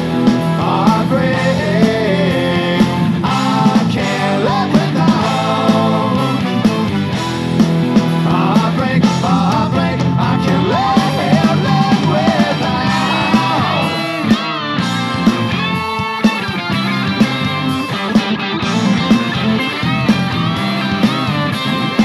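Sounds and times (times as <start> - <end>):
ska punk song over speaker: 0.0 - 22.0.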